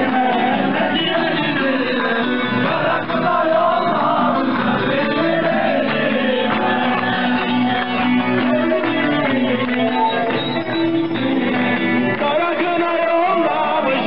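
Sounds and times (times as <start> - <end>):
crowd clapping along: 0.0 - 14.0.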